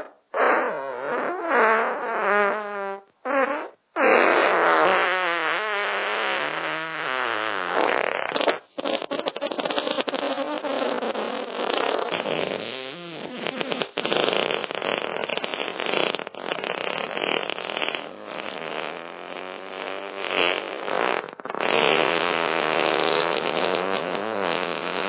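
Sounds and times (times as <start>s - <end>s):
fart sounds: 0.0s - 25.0s.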